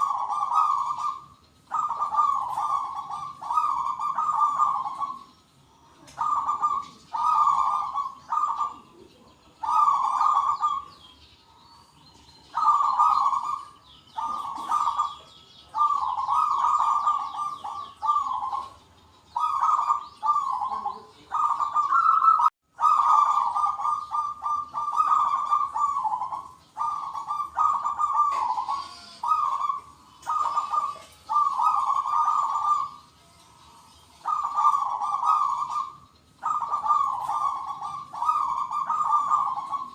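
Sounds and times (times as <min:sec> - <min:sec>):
doves cooing rapidly: 0:00.0 - 0:05.3, 0:05.9 - 0:11.0, 0:12.5 - 0:33.0, 0:34.2 - 0:39.9
small birds chirping: 0:00.0 - 0:39.9.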